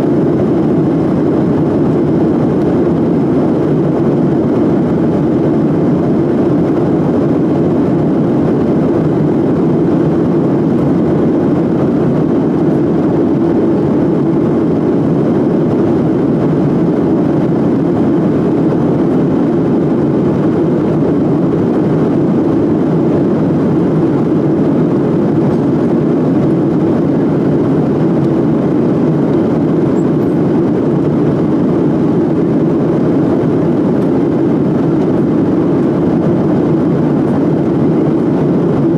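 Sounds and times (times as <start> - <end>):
jet engines and rushing air: 0.0 - 38.9.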